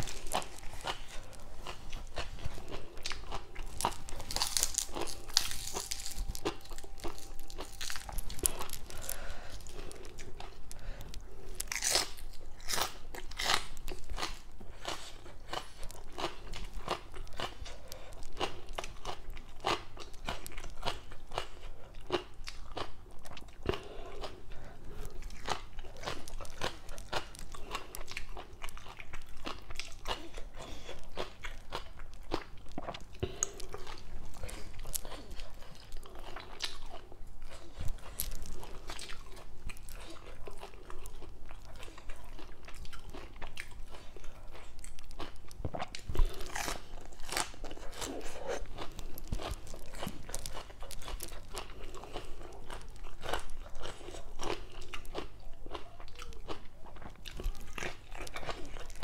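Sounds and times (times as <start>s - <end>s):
crunching and chewing vegetables: 0.0s - 59.0s.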